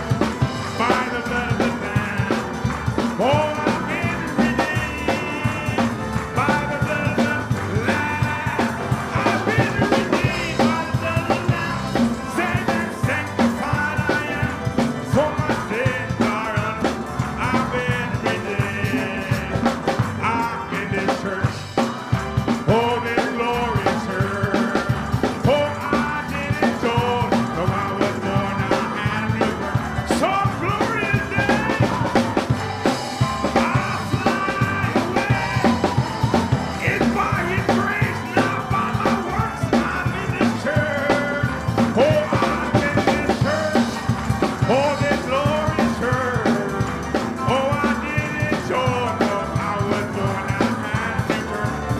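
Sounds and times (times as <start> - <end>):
bending lead melody: 0.0 - 51.9
drum kit beat: 0.0 - 51.9
live praise band: 0.0 - 51.9.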